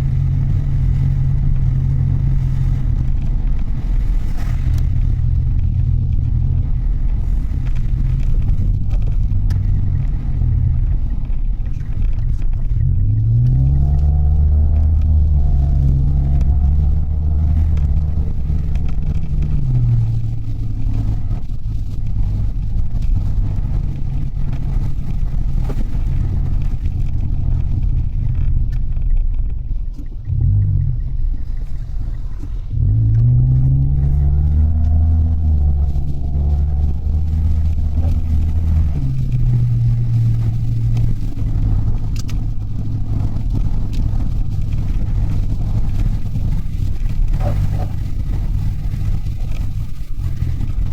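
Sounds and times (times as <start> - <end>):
car engine from inside cabin: 0.0 - 50.9
road noise: 0.0 - 50.9.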